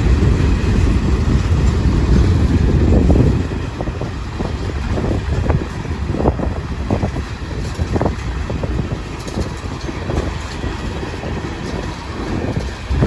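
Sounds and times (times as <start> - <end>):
freight train cars rumbling past: 0.0 - 13.0
wheels clunking over rail joints: 0.0 - 13.0
wind buffeting microphone: 0.0 - 13.0.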